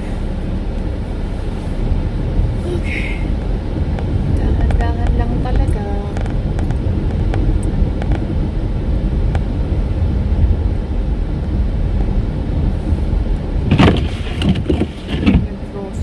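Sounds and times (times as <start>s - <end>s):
road and tyre rumble in car: 0.0s - 16.0s.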